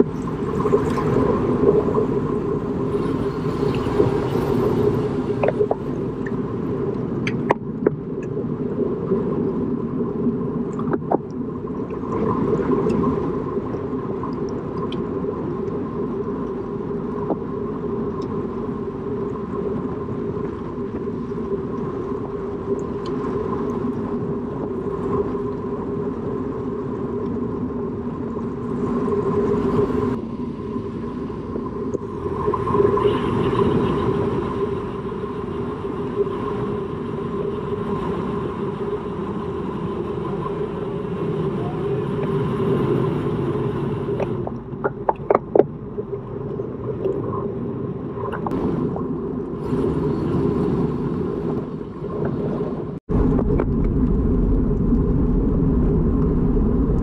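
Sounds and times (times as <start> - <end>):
constant hum: 0.0 - 57.0
road and wind rumble: 0.0 - 57.0.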